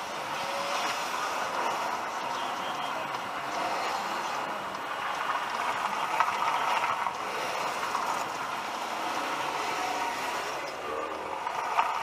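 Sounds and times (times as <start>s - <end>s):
traffic passing: 0.0s - 12.0s.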